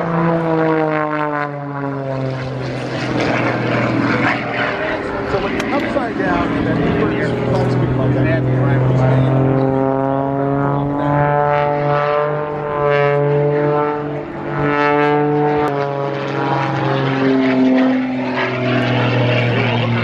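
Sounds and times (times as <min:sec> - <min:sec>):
propeller plane engine: 0:00.0 - 0:20.0.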